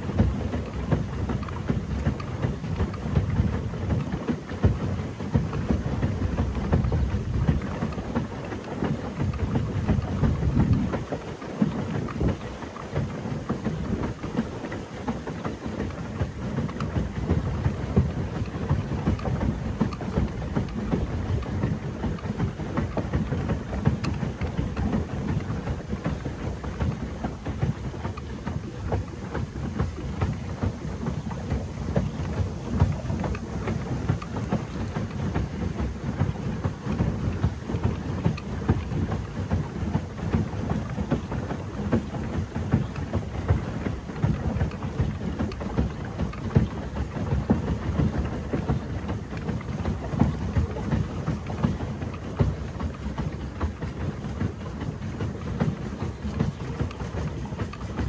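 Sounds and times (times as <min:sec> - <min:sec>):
water splashing: 0:00.0 - 0:58.0
wind rumble on microphone: 0:00.0 - 0:58.0.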